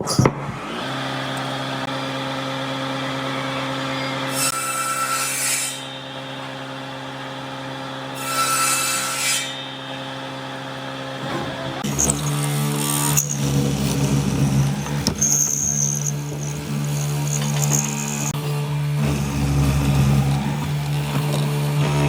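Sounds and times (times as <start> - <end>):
tool cutting wood rushing: 0.0 - 22.0
power tool motor hum: 0.2 - 5.0, 5.8 - 22.0.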